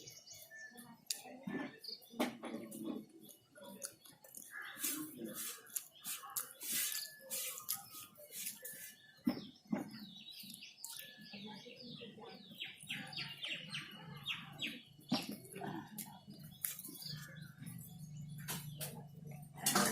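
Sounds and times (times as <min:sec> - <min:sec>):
bird chirping: 0:00.0 - 0:19.7.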